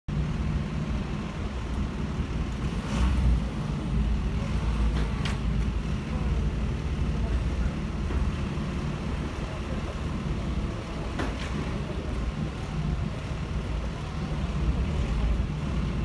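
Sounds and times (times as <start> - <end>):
low engine rumble: 0.1 - 16.0.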